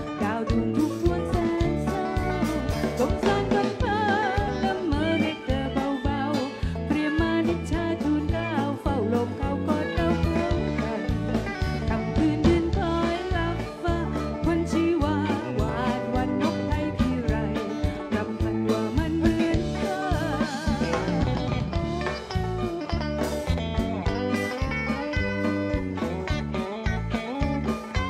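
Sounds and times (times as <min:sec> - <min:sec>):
woman singing: 0:00.0 - 0:23.4
bluegrass band playing: 0:00.0 - 0:28.0
fiddle melody: 0:00.0 - 0:28.0.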